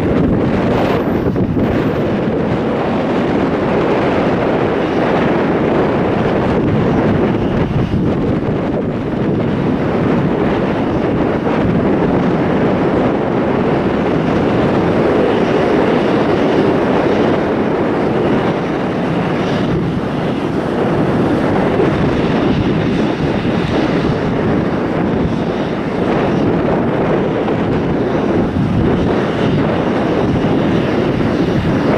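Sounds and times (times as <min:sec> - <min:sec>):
jet engines roaring: 0:00.0 - 0:31.9
wind on microphone: 0:00.0 - 0:31.9.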